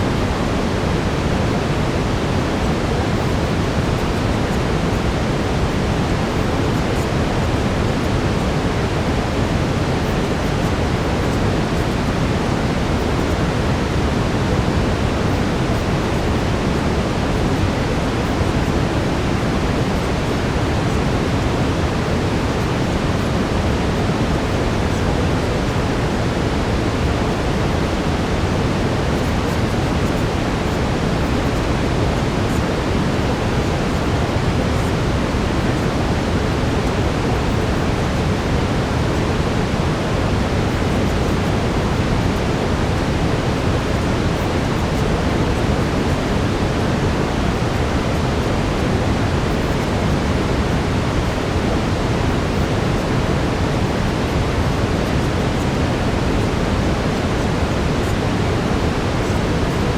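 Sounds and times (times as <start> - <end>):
brown noise: 0.0 - 59.9.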